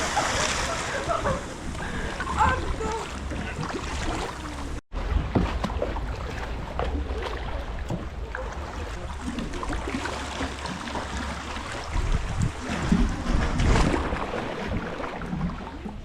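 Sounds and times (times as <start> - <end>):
water lapping and splashing: 0.0 - 16.0
wind rumbling on microphone: 0.0 - 16.0.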